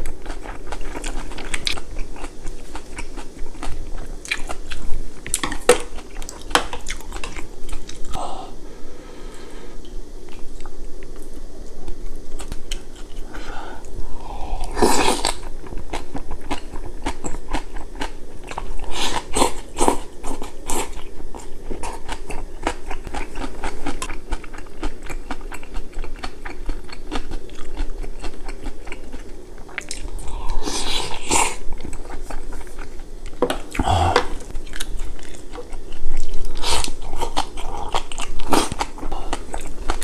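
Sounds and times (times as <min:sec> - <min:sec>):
chewing and crunching food: 0:00.0 - 0:08.2, 0:09.8 - 0:40.0.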